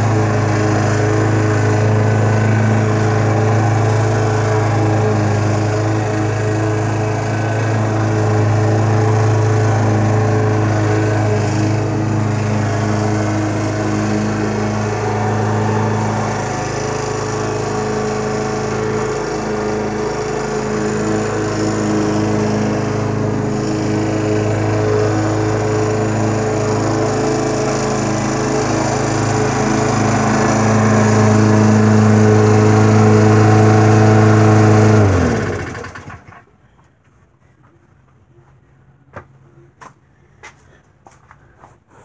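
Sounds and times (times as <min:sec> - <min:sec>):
lawn mower running: 0:00.0 - 0:36.5.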